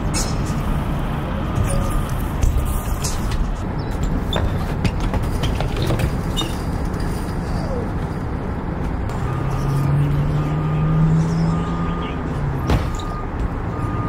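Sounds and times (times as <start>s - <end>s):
large vehicle engine hum: 0.0s - 14.0s.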